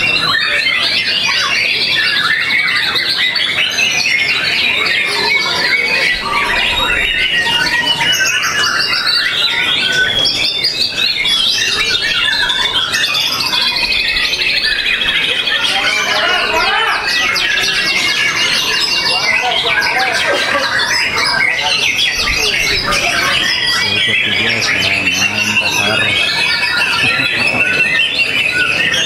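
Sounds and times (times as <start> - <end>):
bird singing whistles and trills: 0.0 - 29.0.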